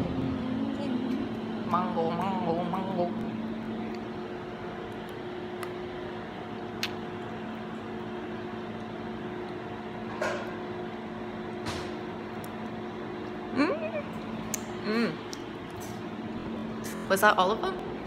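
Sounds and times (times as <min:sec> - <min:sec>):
electrical appliance hum: 0:00.0 - 0:18.0.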